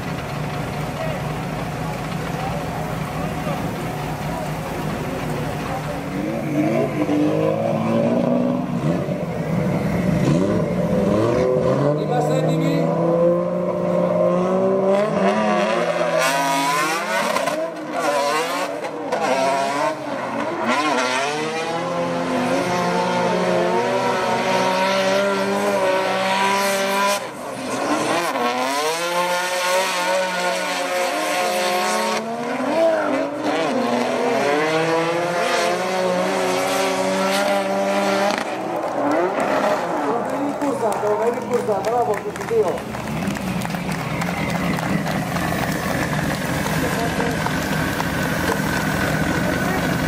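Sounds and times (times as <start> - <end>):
car engines at high revs: 0.0 - 50.0.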